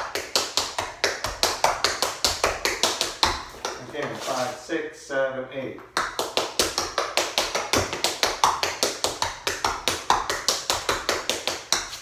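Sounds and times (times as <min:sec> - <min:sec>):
tap shoes tapping: 0:00.0 - 0:04.2, 0:05.8 - 0:12.0.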